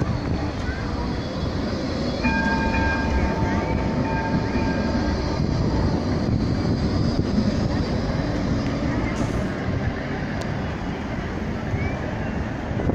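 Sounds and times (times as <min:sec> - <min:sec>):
steady high whine: 0:00.0 - 0:12.8
tram wheels rumbling on rail: 0:00.0 - 0:12.9.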